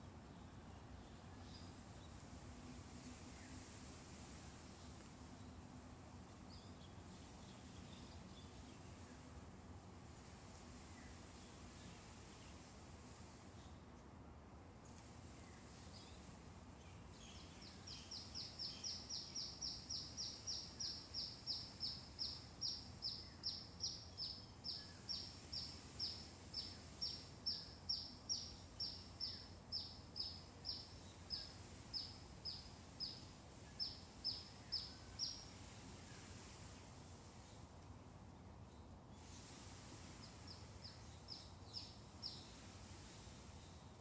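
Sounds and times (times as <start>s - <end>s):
faint low outdoor rumble: 0.0s - 44.0s.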